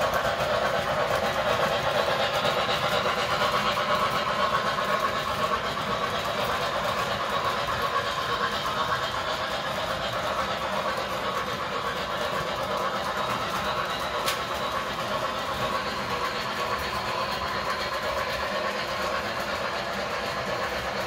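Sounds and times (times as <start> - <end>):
model train wheels rumbling on rails: 0.0 - 21.0.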